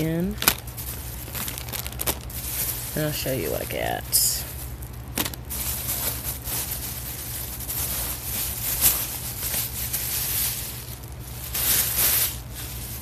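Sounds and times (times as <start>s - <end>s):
packaging crinkling: 0.2s - 13.0s.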